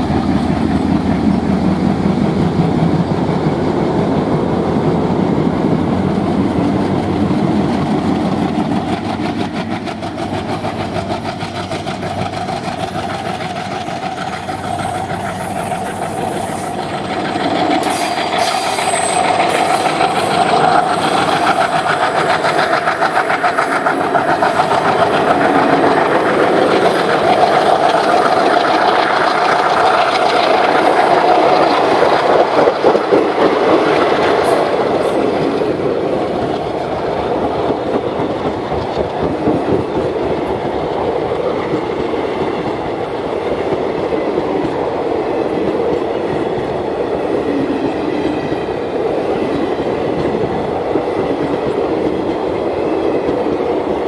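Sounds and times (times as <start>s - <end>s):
diesel locomotive engine drone: 0.0s - 54.0s
train wheel clatter: 0.0s - 54.0s.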